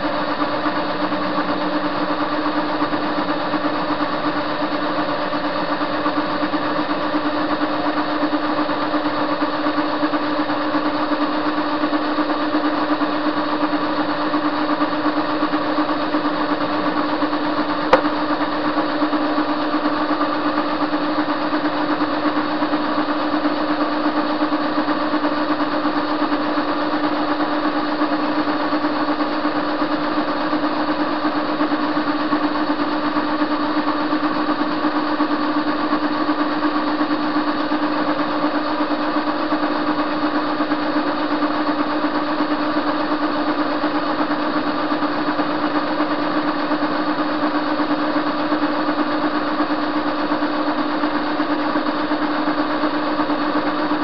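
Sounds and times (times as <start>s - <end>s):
lathe motor humming: 0.0s - 54.0s.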